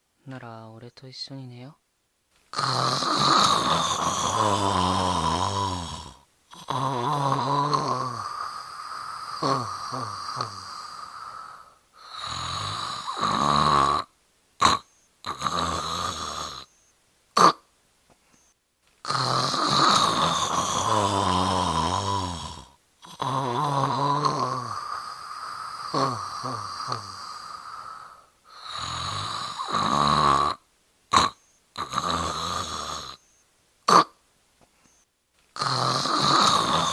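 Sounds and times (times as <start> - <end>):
person snoring: 2.5 - 16.8, 17.4 - 17.6, 19.0 - 33.3, 33.9 - 34.2, 35.6 - 36.9.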